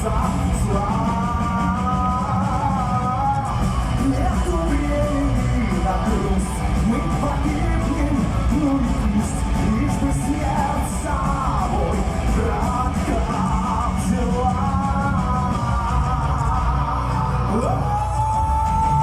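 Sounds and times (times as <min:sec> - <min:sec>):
lead vocal singing: 0:00.0 - 0:19.0
metal band playing: 0:00.0 - 0:19.0.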